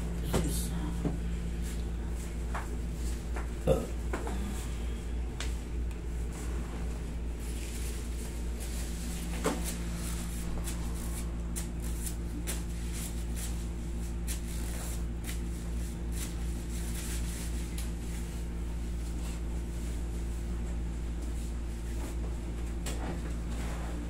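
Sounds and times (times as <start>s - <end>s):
low hum of room machinery: 0.0s - 24.0s.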